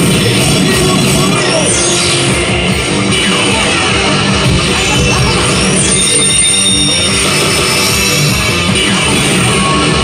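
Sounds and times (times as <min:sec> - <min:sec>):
heavy rock music with electric guitar: 0:00.0 - 0:10.0.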